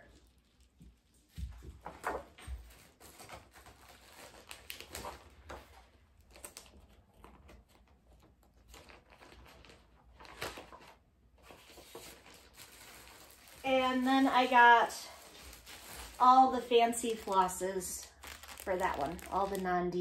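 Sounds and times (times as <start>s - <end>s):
paper pages rustling: 0.1s - 19.8s.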